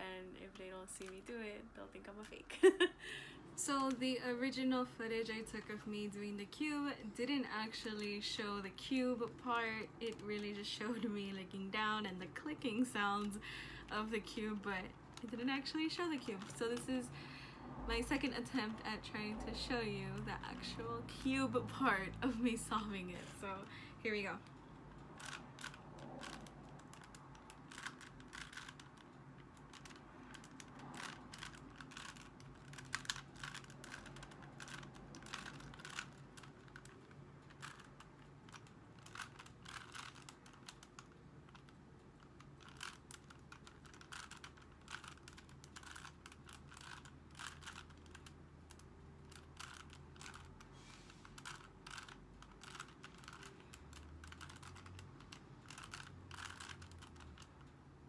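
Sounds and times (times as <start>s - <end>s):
puzzle cube plastic clicks: 3.6s - 4.6s, 6.6s - 17.2s, 19.5s - 58.0s.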